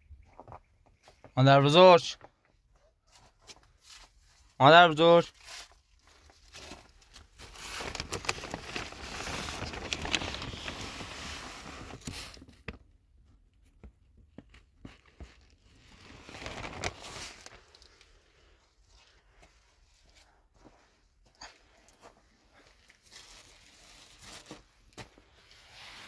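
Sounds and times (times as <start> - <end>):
rustling crinkling handling noise: 3.1 - 12.8, 14.4 - 26.0.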